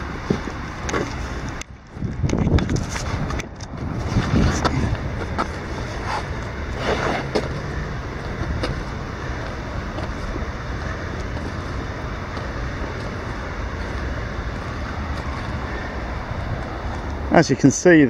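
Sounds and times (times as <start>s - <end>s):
outdoor background rush: 0.0s - 18.0s
faint footsteps: 0.2s - 17.2s.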